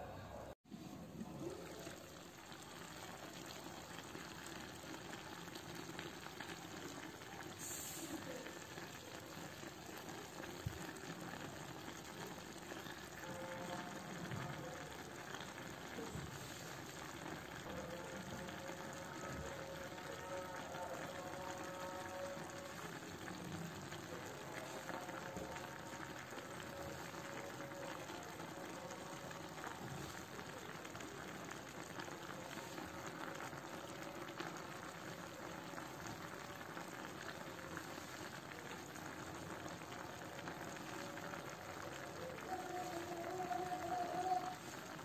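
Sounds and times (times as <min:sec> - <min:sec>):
sauce sizzling and bubbling: 0:00.7 - 0:45.0.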